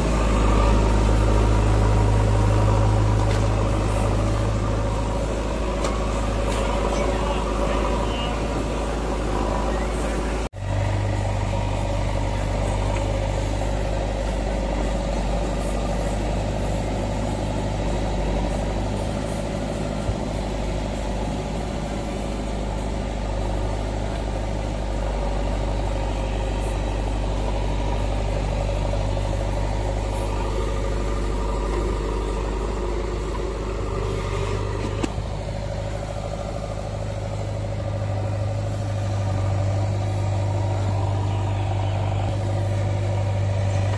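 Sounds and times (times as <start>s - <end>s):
diesel engines running: 0.0s - 43.9s.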